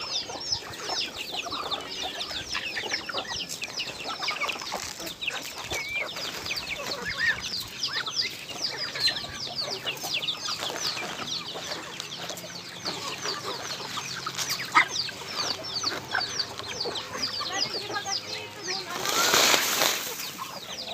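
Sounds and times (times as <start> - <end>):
chicks and ducklings peeping: 0.0 - 20.9.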